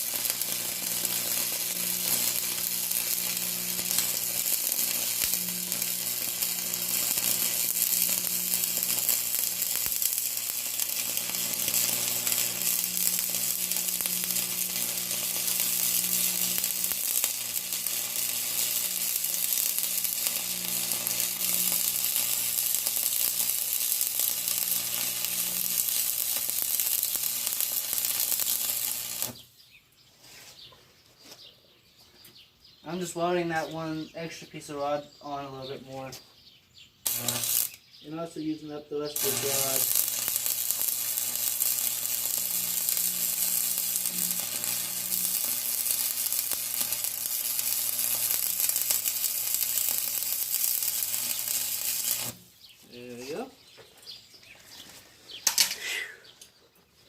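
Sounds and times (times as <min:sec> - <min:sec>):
welding arc crackling sizzle: 0:00.0 - 0:29.6, 0:37.0 - 0:53.5.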